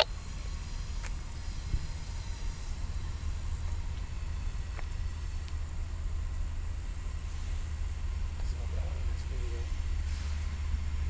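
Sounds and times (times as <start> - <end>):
distant diesel locomotive rumble: 0.0 - 11.0.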